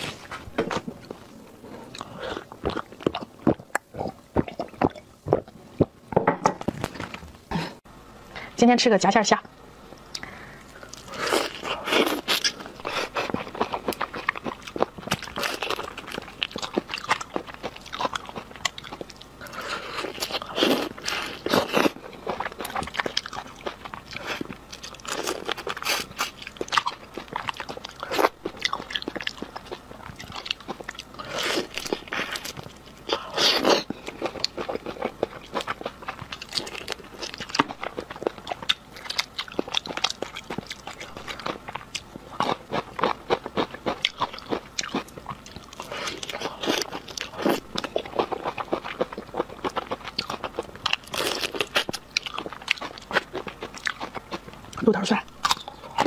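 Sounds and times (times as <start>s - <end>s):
crunchy chewing: 10.1s - 56.0s.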